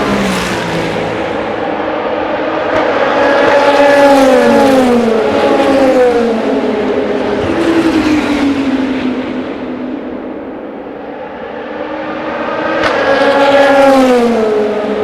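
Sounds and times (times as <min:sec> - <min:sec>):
race cars passing at speed: 0:00.0 - 0:15.0.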